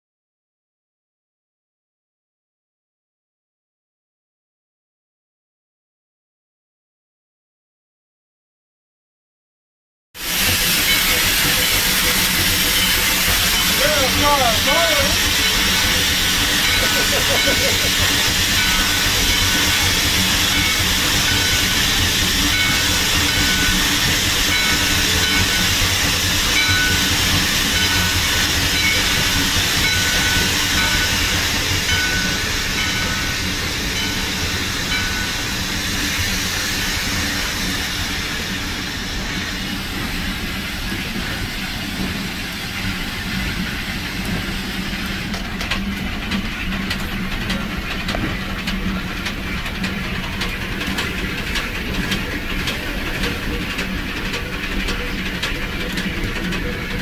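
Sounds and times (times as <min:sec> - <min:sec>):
steam locomotive hiss: 0:10.2 - 0:57.0.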